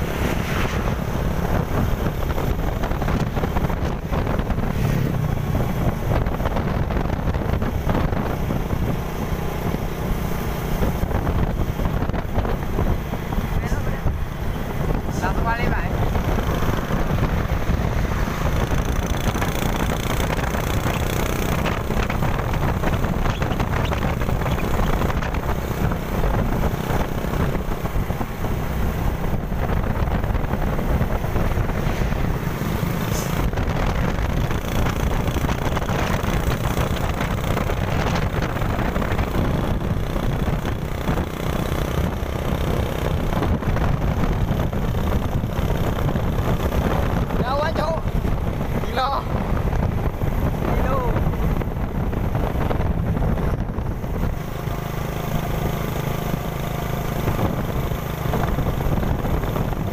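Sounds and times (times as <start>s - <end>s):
motorcycle engine: 0.0s - 59.9s
road noise: 0.0s - 59.9s
wind rushing over microphone: 0.0s - 59.9s.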